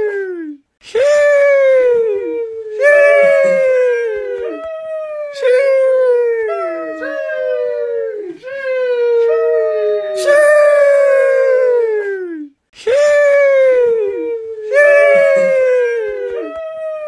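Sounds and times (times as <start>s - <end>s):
voice drawing out sheesh: 0.0s - 9.2s, 10.1s - 17.0s.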